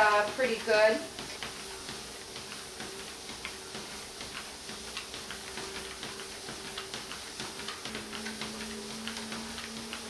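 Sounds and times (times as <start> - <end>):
dog claws clicking on treadmill belt: 0.0 - 10.0
treadmill motor hum: 0.0 - 10.0.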